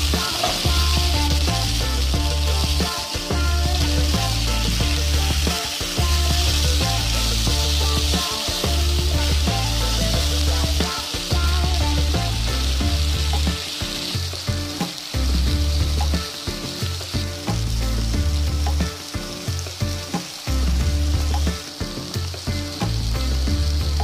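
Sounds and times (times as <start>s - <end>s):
food sizzling in a wok: 0.0s - 24.0s.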